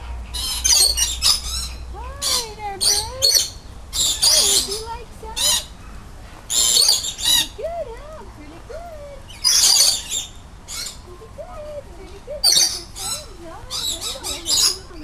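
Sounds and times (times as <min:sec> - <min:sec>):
birds squawking harshly: 0:00.0 - 0:15.0.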